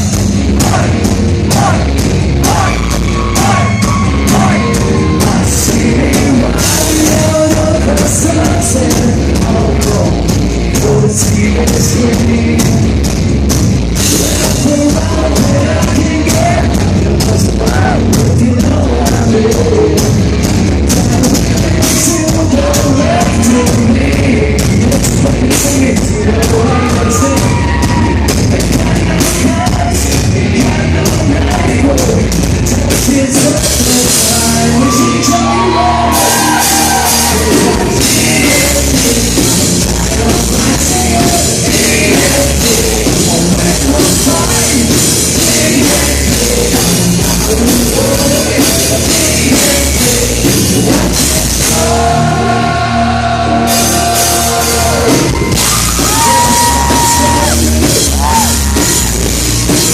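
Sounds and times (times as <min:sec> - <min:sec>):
distorted guitars: 0:00.0 - 0:59.9
drum kit: 0:00.0 - 0:59.9
person singing: 0:00.6 - 0:12.9, 0:14.0 - 0:20.2, 0:20.9 - 0:59.9.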